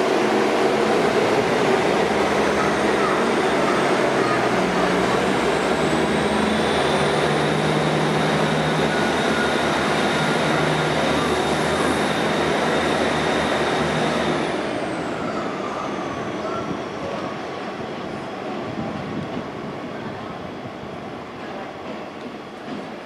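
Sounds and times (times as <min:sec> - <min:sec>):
diesel train engine: 0:00.0 - 0:23.0.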